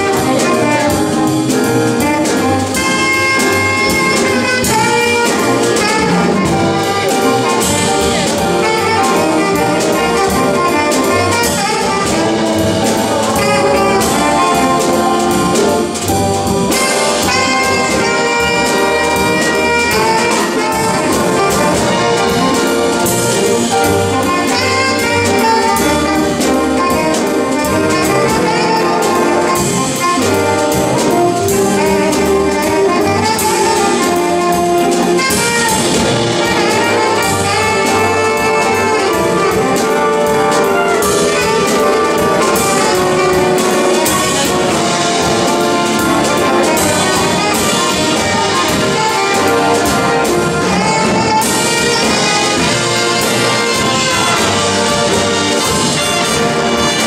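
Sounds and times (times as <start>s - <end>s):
drummer playing cymbals: 0.0s - 57.0s
jazz big band playing: 0.0s - 57.0s.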